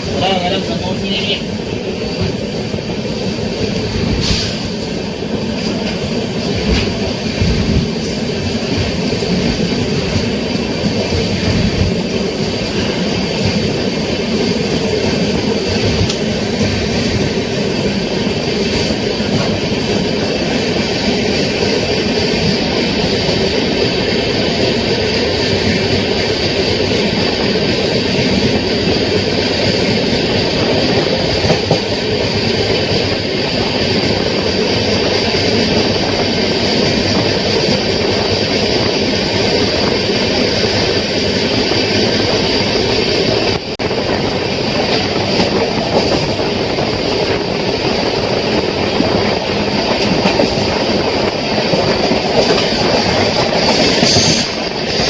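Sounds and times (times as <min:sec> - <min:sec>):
train coaches rumbling and rattling: 0:00.0 - 0:55.0.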